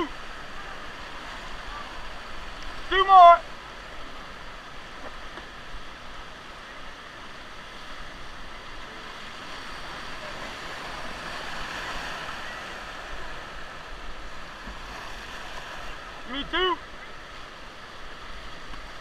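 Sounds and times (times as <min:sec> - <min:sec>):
whitewater rushing and splashing: 0:00.0 - 0:19.0.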